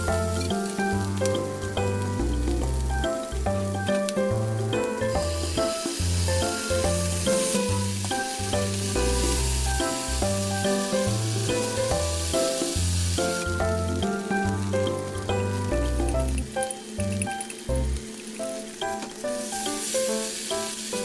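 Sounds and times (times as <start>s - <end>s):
background music with bass line: 0.0s - 18.1s
rice sizzling in a frying pan: 0.0s - 21.0s.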